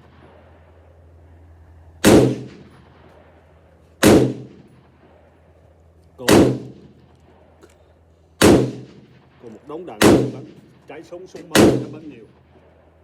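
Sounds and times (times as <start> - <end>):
rifle shots with echo: 0.0 - 7.6, 8.4 - 13.0.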